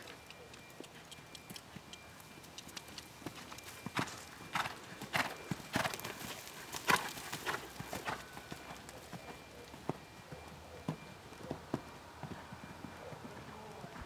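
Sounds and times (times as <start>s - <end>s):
horse hoofbeats on sand: 0.9s - 14.0s.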